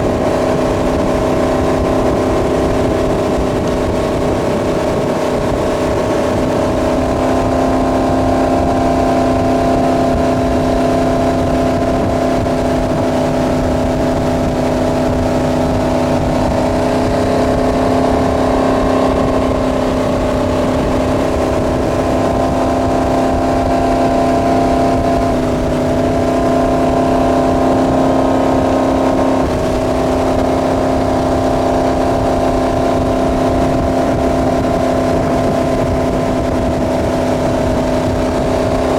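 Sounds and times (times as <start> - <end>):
boat engine running: 0.0 - 38.9
rushing wind and water: 0.0 - 38.9.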